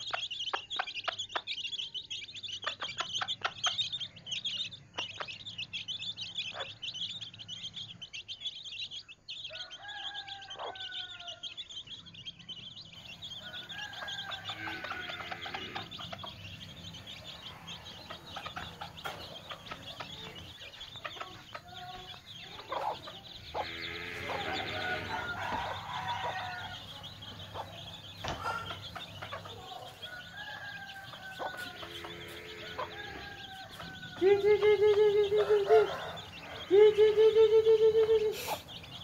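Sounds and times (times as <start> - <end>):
chickens clucking and calling: 0.0 - 39.0.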